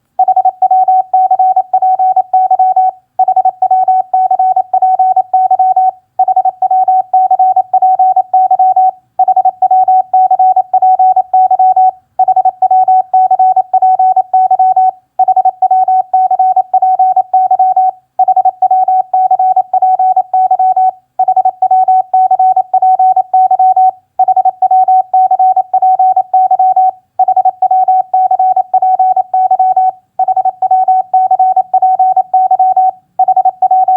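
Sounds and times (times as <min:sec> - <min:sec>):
morse code beeps: 0:00.2 - 0:33.9.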